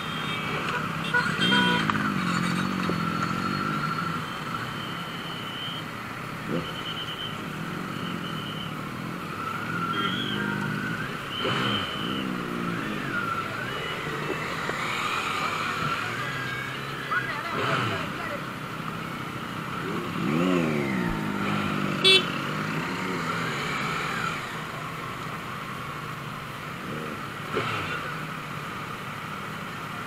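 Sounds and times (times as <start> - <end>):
motorcycle engines revving: 0.0 - 30.0
road rumble: 0.0 - 30.0.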